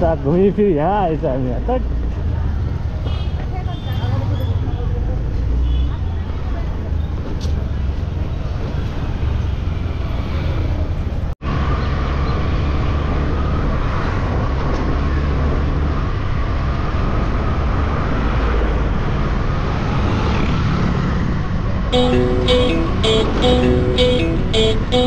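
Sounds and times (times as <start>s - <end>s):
vehicle and road rumble: 0.0s - 25.0s.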